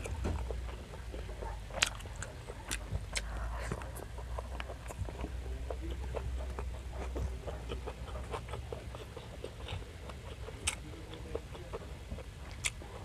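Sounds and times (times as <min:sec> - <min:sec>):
fingers tearing food: 0:00.0 - 0:13.0
wet mouth chewing: 0:00.0 - 0:13.0.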